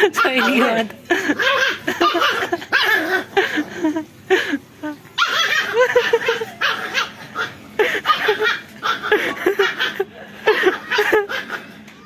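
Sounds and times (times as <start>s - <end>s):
people laughing: 0.0s - 6.9s, 7.7s - 11.7s.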